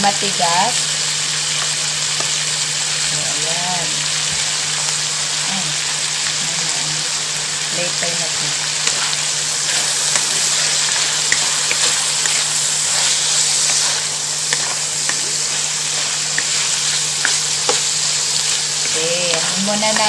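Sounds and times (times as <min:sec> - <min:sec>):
food sizzling in a hot pan: 0:00.0 - 0:20.0.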